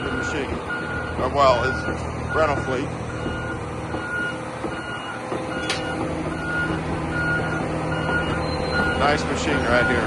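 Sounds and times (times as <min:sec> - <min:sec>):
backup alarm beeping: 0:00.0 - 0:10.0
large diesel engine running: 0:00.0 - 0:10.0.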